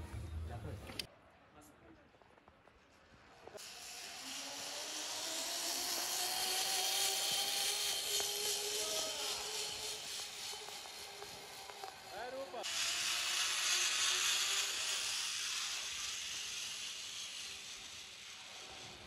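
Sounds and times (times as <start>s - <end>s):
zipline pulley whirring on cable: 3.6s - 19.0s.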